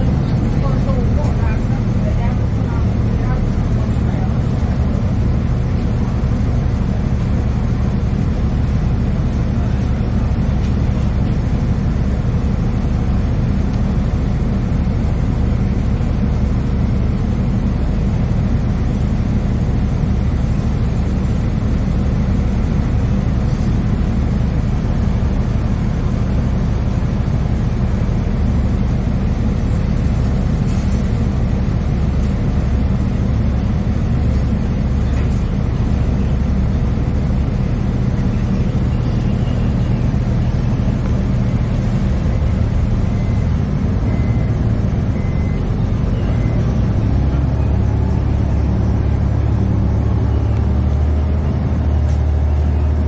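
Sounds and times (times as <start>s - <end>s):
bus diesel engine humming: 0.0s - 53.0s
road and cabin noise: 0.0s - 53.0s.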